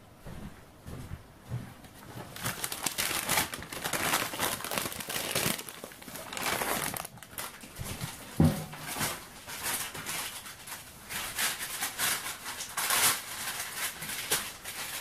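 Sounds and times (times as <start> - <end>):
baking paper crinkling: 2.1 - 15.0.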